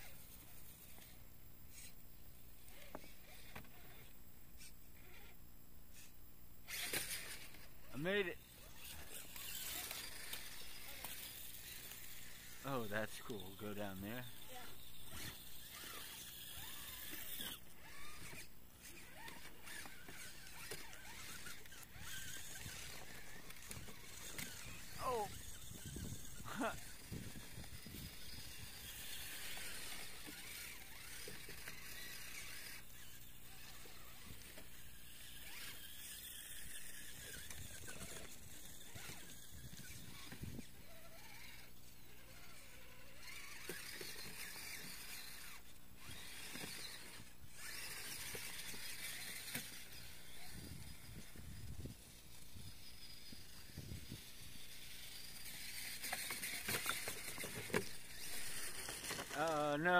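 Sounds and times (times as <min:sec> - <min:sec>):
small electric motor whining: 0:00.0 - 0:59.9.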